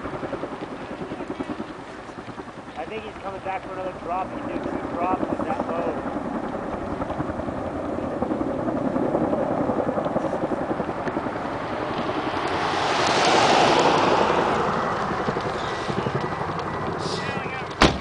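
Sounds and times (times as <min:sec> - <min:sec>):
helicopter rotor beat: 0:00.0 - 0:18.0.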